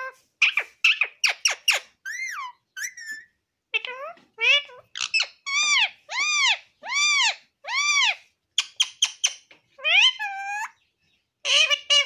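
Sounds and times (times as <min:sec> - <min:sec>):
parakeet squawking: 0:00.0 - 0:10.8, 0:11.4 - 0:12.0.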